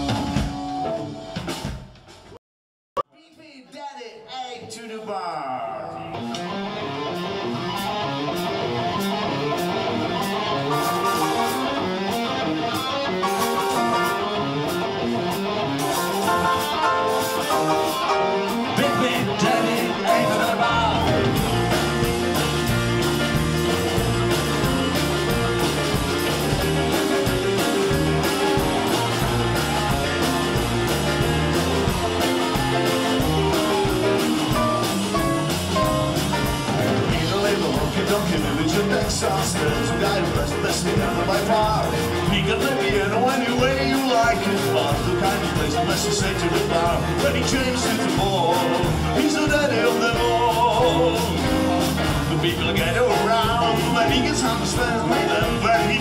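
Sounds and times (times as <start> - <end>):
rock and roll music with guitar: 0.0 - 2.4, 6.0 - 56.0.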